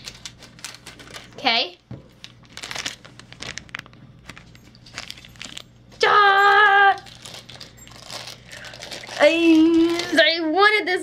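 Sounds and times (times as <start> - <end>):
foil packet crinkling and tearing: 0.0 - 10.5.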